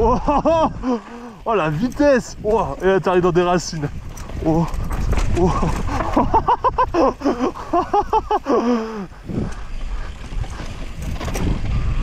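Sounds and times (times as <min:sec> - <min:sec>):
mountain bike rumbling and rattling: 0:00.0 - 0:12.0
wind buffeting microphone: 0:00.0 - 0:12.0.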